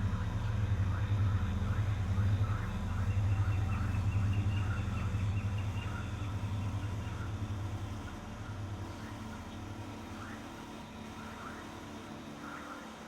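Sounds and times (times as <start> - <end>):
low synth drone pulsing: 0.0 - 12.3.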